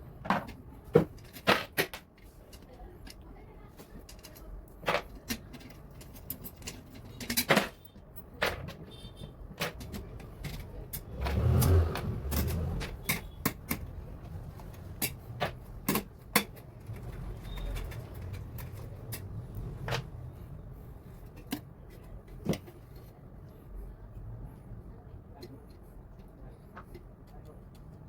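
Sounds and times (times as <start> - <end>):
tools clicking and knocking: 0.2 - 3.2, 3.8 - 8.9, 9.5 - 20.2, 21.2 - 23.6, 25.3 - 28.0.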